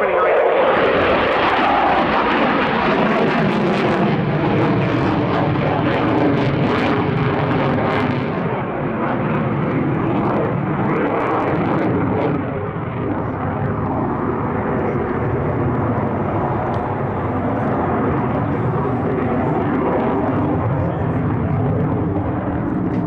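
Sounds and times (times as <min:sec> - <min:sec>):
jet fighter noise with crackle: 0:00.0 - 0:23.0.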